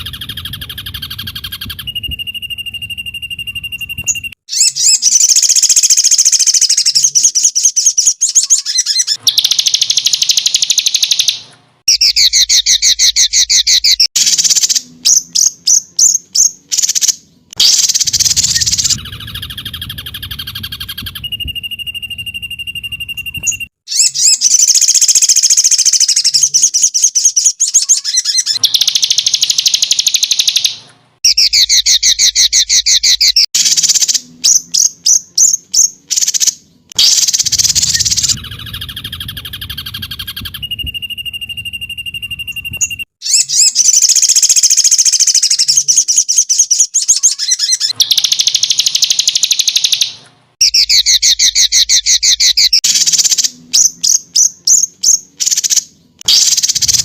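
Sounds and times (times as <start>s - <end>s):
songbird trills and whistles: 0.0s - 57.0s.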